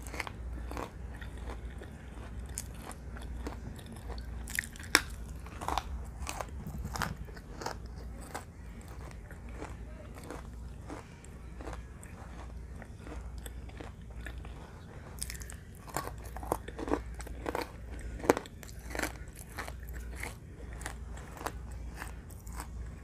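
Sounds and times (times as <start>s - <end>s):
person chewing crunchy clay: 0.0s - 23.0s.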